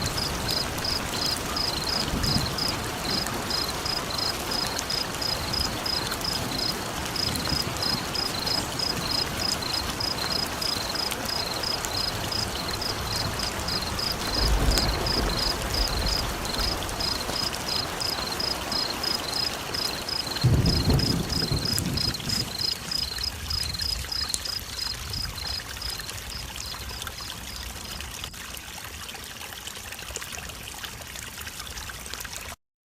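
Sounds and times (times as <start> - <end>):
frog chirping: 0.0 - 26.7
steady rain hiss: 0.0 - 28.4.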